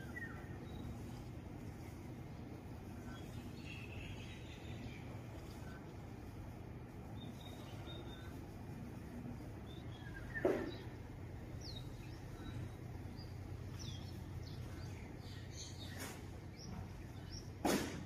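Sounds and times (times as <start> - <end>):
birds chirping: 0.0 - 18.0
steady low hum: 0.0 - 18.0.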